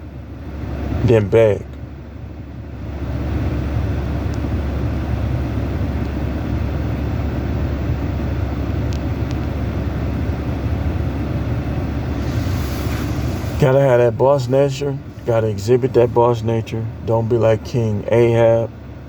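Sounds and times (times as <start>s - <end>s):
vehicle rumble in motion: 0.0s - 19.0s.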